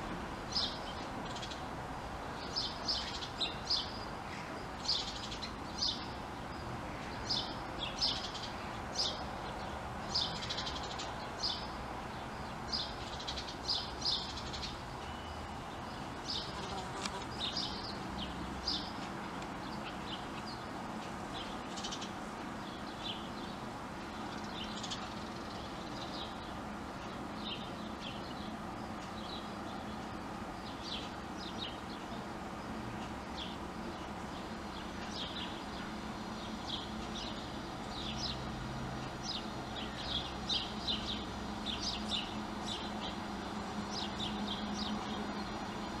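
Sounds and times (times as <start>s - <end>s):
steady low hum: 0.0s - 46.0s
small birds chirping: 0.5s - 1.7s, 2.3s - 46.0s.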